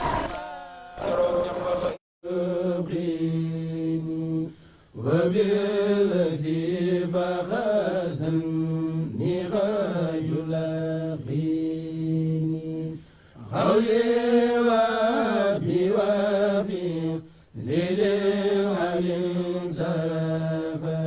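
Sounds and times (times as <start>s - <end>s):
male voices chanting: 0.0s - 21.0s.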